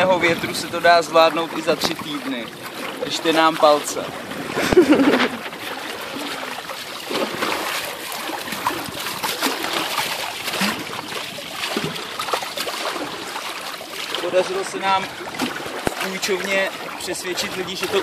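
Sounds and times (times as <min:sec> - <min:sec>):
water splashing against hulls: 0:00.0 - 0:18.0.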